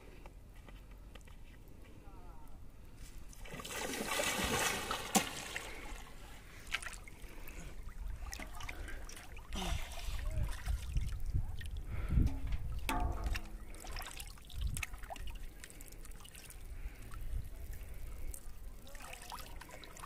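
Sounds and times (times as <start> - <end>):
water sloshing and trickling: 3.3 - 20.0.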